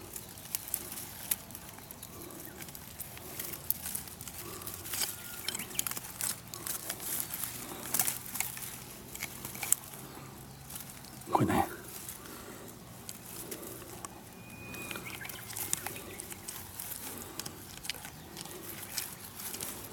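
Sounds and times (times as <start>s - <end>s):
dry leaves crackling and rustling: 0.0s - 19.9s
twigs snapping: 0.0s - 19.9s.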